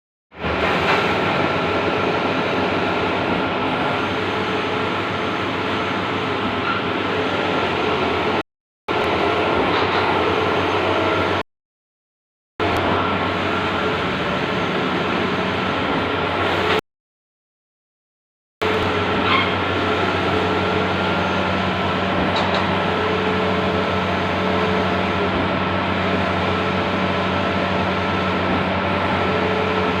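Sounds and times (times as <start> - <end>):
printer whirring and humming: 0.4 - 11.4, 12.6 - 16.8, 18.6 - 30.0.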